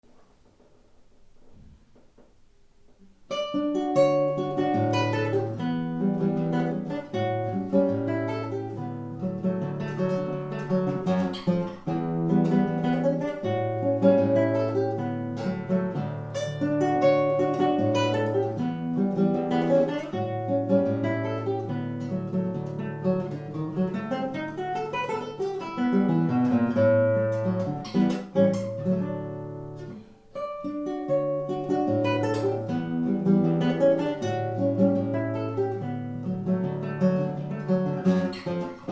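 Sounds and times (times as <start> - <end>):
acoustic guitar instrumental: 0.0 - 38.9.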